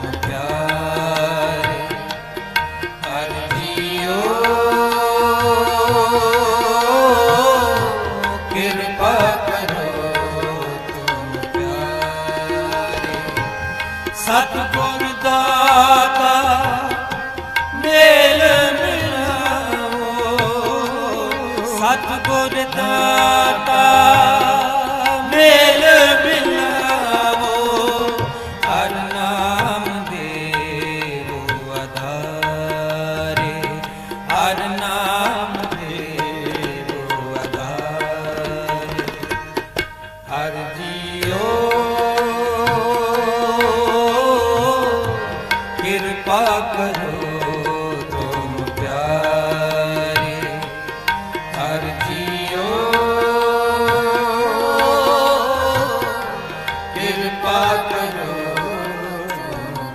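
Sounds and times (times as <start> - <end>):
tabla playing: 0.0 - 59.9.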